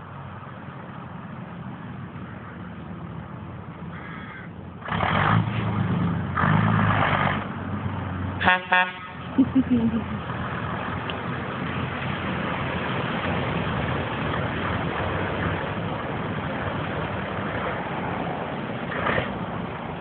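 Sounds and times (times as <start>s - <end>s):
road noise: 0.0s - 20.0s
truck engine running: 0.0s - 20.0s.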